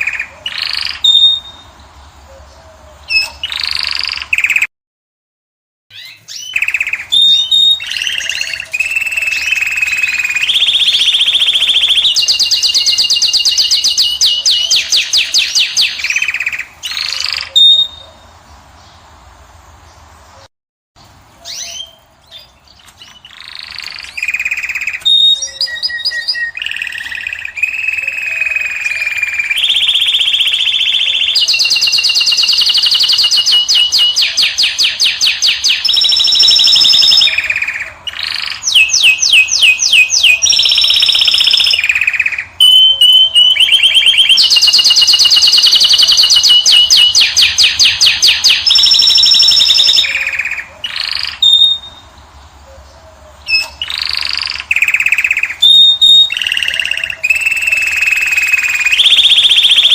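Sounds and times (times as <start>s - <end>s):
finch singing fast trills: 5.9s - 18.4s, 21.4s - 59.9s.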